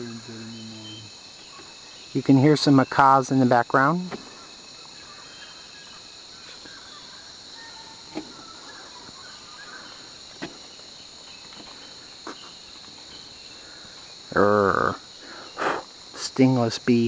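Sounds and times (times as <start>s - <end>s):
faint bird calls: 0.0s - 2.8s, 4.0s - 16.1s
high insect drone: 0.0s - 17.0s.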